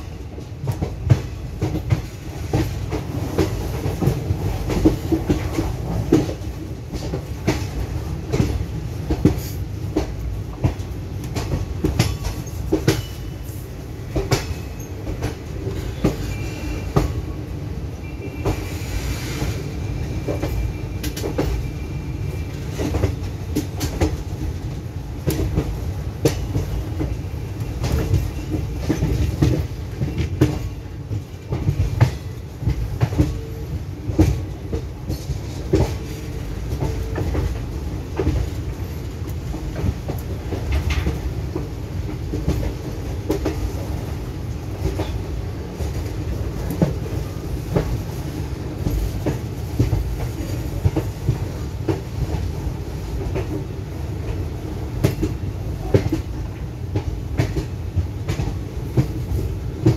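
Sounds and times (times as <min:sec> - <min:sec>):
train low rumble: 0:00.0 - 0:59.9.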